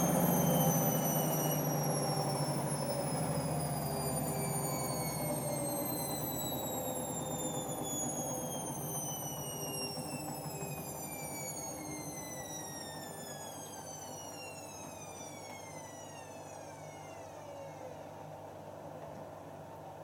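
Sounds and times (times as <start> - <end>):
washing machine motor whine: 0.0 - 20.0.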